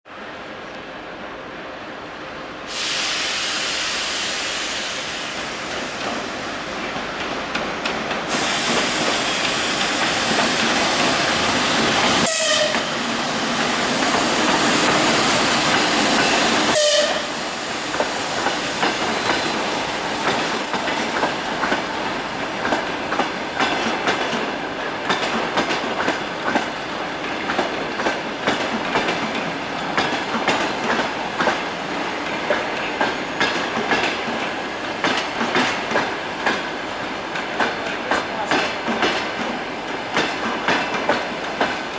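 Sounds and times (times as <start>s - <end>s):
diesel locomotive passing: 0.1s - 41.9s.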